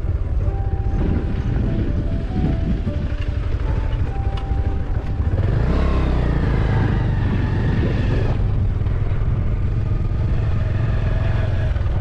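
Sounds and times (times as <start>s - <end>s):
loud low rumble: 0.0s - 12.0s
motorbike engine running: 0.0s - 12.0s.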